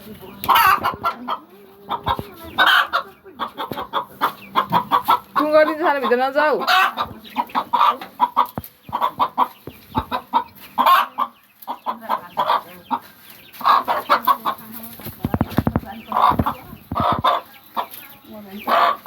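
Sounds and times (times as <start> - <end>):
hen clucking: 0.0 - 19.0.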